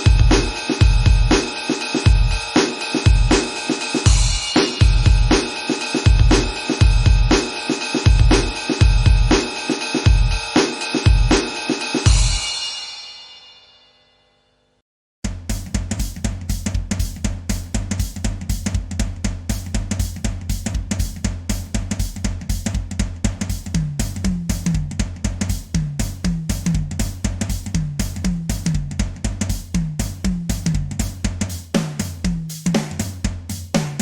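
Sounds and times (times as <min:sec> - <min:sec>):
drum kit beat: 0:00.0 - 0:13.5, 0:15.2 - 0:34.0.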